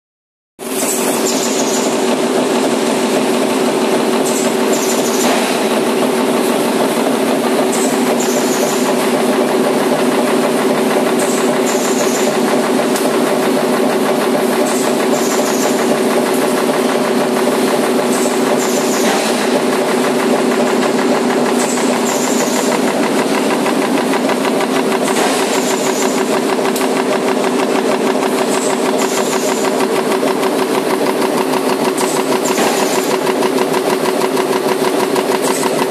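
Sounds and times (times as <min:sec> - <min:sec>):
machine hum: 0:00.6 - 0:35.9.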